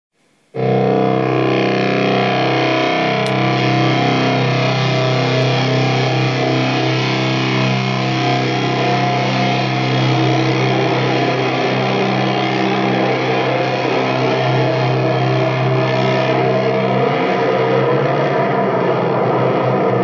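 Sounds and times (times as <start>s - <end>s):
electric guitar noise drone: 0.4s - 20.0s.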